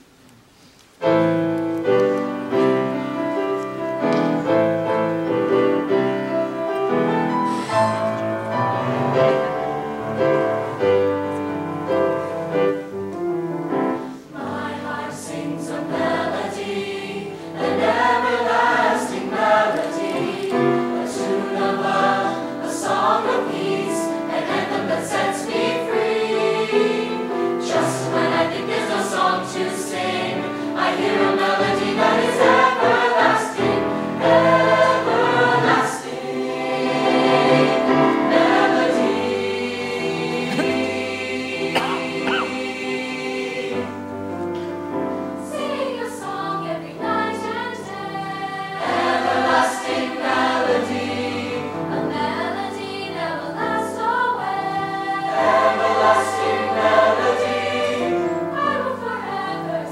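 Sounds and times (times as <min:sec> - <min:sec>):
piano accompaniment: 0:01.0 - 0:59.9
choir singing: 0:02.5 - 0:13.0, 0:13.7 - 0:59.9.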